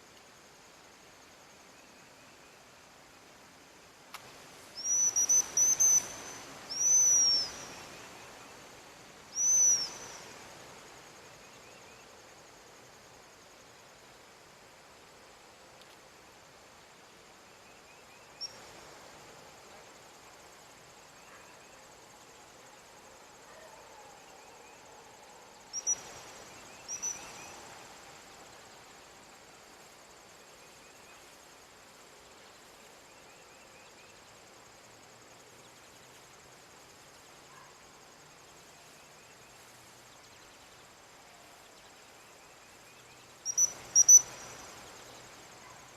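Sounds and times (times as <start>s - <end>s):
crickets and insects chorus: 0.0s - 45.9s.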